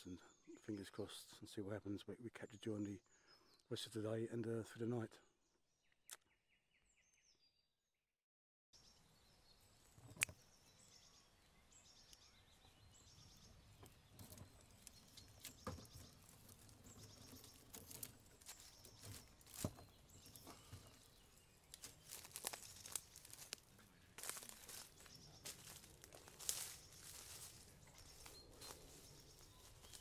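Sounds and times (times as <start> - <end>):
faint birdsong: 0.0 - 8.0, 8.7 - 30.0.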